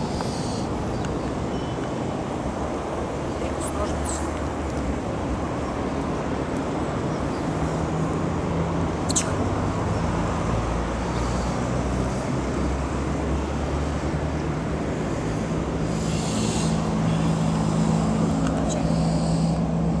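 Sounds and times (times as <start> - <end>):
road traffic engine hum: 0.0 - 20.0.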